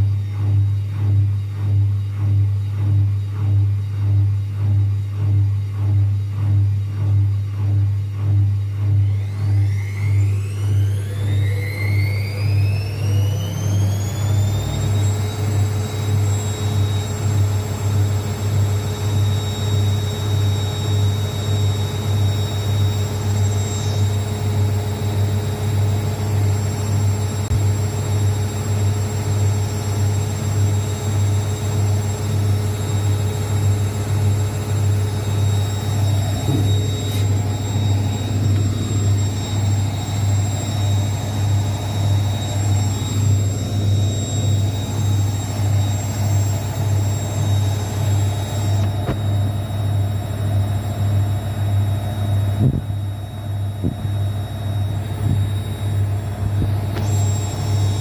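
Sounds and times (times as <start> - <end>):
spinning drum hum: 0.0 - 50.2
washing machine motor whine: 0.0 - 58.0.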